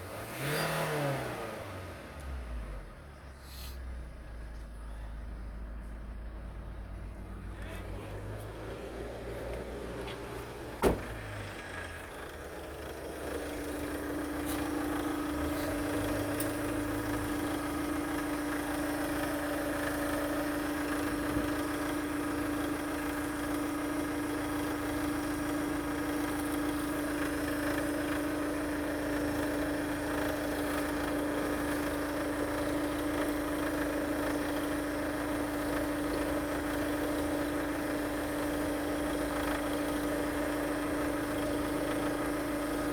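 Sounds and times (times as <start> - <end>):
engine whine: 0.0 - 42.9
diesel engine idling: 1.6 - 42.9.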